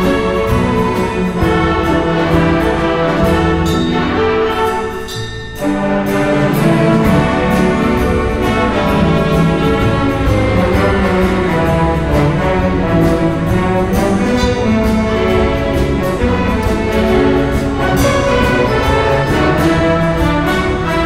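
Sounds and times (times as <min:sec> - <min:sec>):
orchestra playing: 0:00.0 - 0:21.0.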